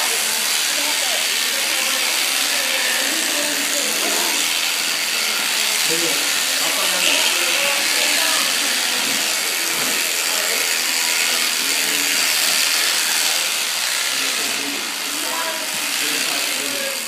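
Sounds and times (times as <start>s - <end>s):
electric shears buzzing: 0.0s - 17.0s.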